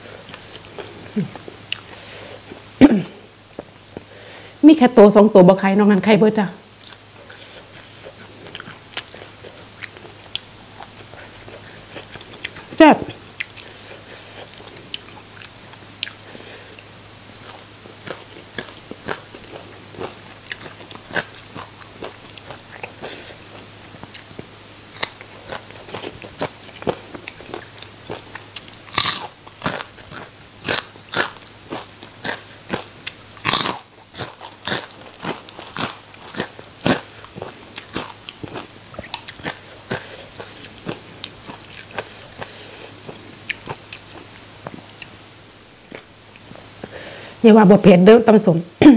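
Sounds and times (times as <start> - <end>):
crunchy chewing: 0.0 - 2.7, 6.7 - 47.2
faint low hum: 0.0 - 48.9.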